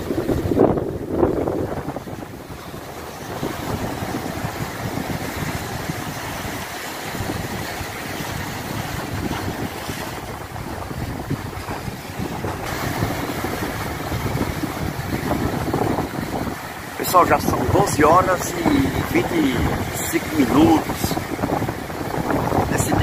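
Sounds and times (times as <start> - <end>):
surf breaking over rocks: 0.0 - 23.0
wind buffeting microphone: 0.0 - 23.0.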